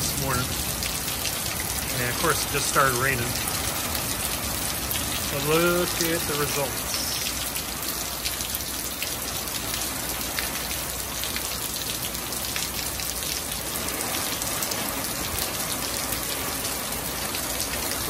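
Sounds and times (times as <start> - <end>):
heavy rain on truck and concrete: 0.0 - 18.0.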